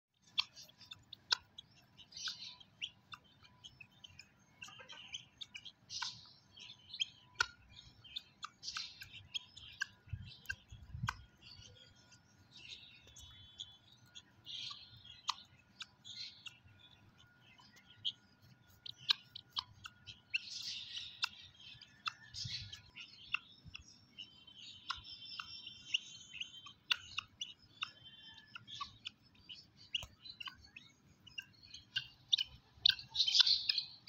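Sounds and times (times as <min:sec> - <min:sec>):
birds chirping: 0:00.1 - 0:34.0.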